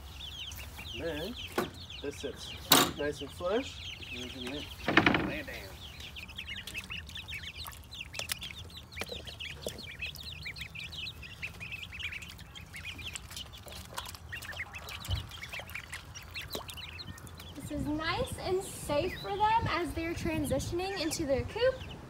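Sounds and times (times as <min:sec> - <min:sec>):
chicks and ducklings peeping: 0:00.0 - 0:22.0.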